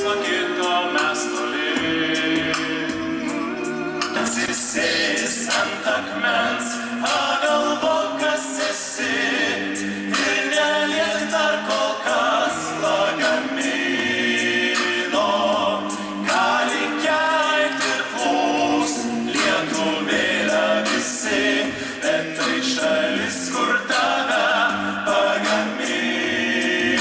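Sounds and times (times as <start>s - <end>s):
men singing a cappella: 0.0s - 27.0s.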